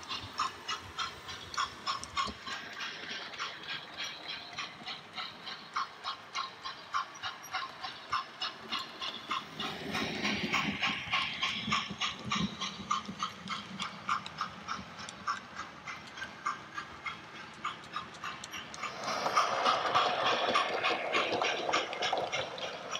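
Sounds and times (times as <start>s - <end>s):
model steam locomotive chuffing: 0.0s - 22.9s
wheels rumbling on track: 0.0s - 22.9s.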